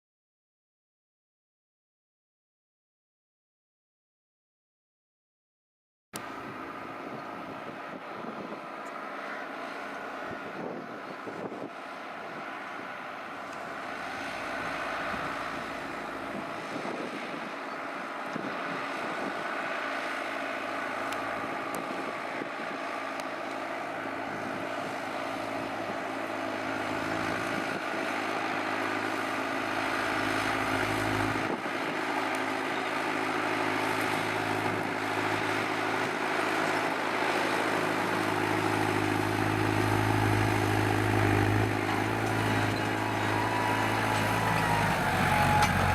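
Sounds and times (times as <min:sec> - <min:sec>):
tractor diesel engine drone: 0:06.2 - 0:45.9.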